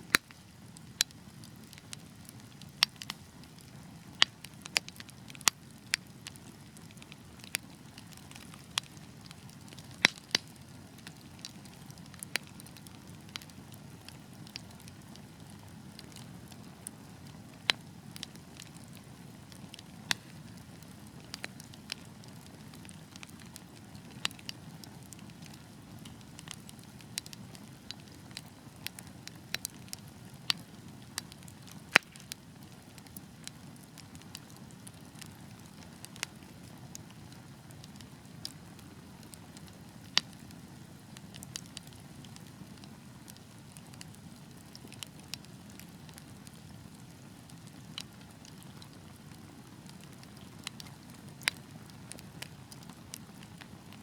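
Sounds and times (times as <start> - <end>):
logs crackling and popping: 0.0 - 54.0.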